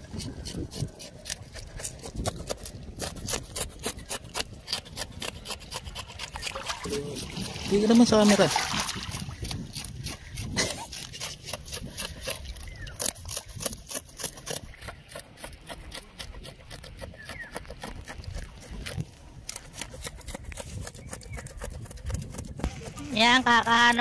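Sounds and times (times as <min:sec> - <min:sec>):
knife scraping fish: 0:00.0 - 0:24.0.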